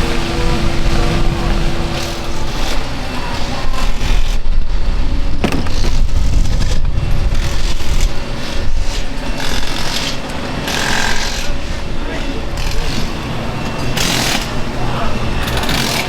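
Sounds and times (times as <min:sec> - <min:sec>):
race car engines running: 0:00.0 - 0:16.0.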